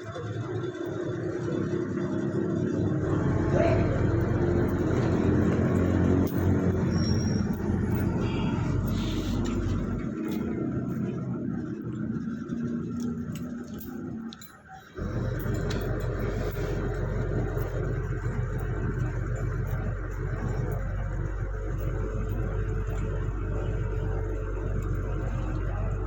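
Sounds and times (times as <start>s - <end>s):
heavy vehicle engine humming: 0.0s - 26.0s
light clinks: 4.0s - 26.0s.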